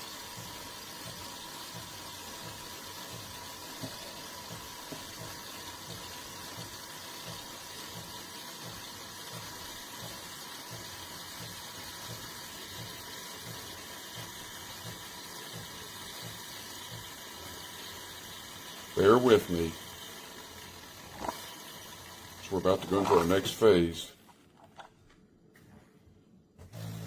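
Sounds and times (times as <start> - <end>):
low pump pulse: 0.0 - 23.5
espresso machine hissing: 0.0 - 23.8, 26.6 - 27.0.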